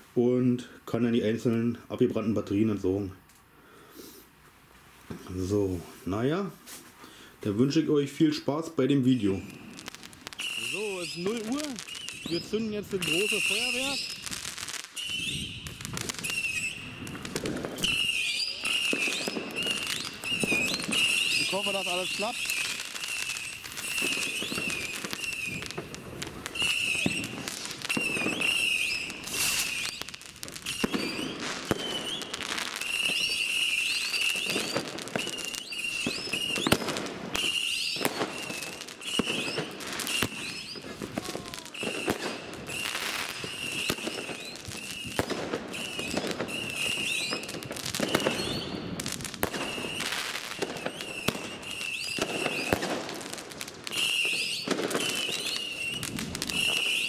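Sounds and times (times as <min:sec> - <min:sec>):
fireworks popping and bursting: 0:04.9 - 0:57.0
firework whistling: 0:08.8 - 0:57.0.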